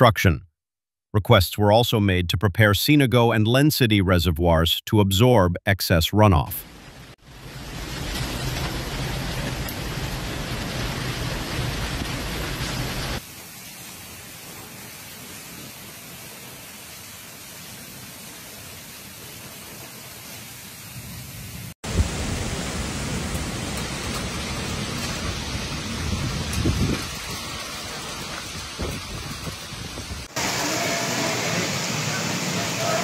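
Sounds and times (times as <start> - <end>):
heavy rain and wind: 6.4 - 33.0.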